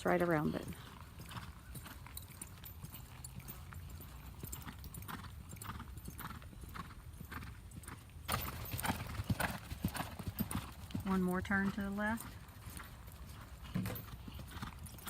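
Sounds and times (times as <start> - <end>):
horse hoofbeats: 0.0 - 15.0.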